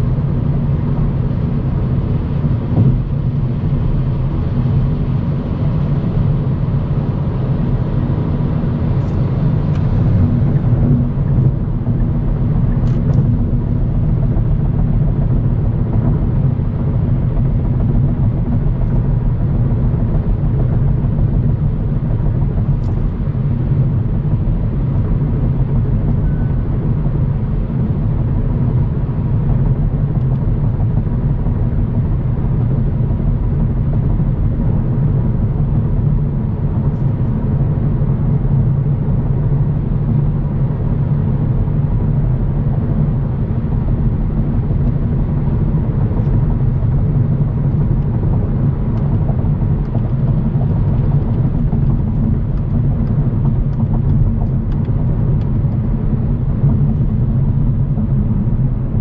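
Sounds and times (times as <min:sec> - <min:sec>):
engine drone: 0:00.0 - 0:59.0
road and tyre noise: 0:00.0 - 0:59.0.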